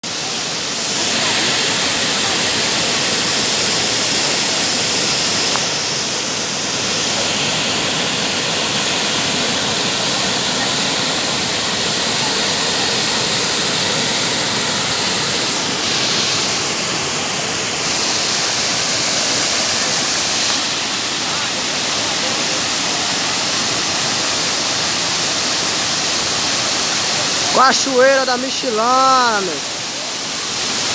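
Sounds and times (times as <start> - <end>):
waterfall crashing: 0.1 - 30.9.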